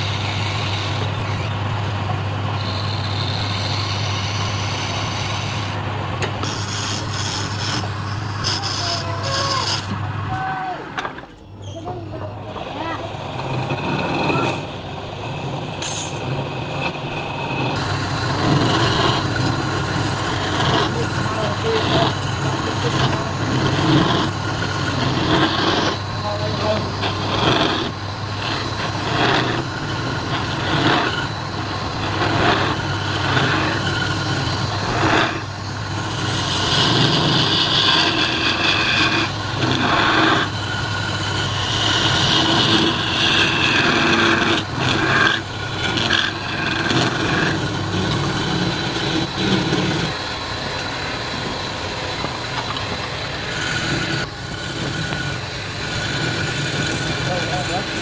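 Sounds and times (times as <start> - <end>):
chisel scraping spinning wood: 0.0 - 10.2, 11.8 - 58.0
wood lathe motor humming: 0.0 - 10.2, 12.4 - 58.0.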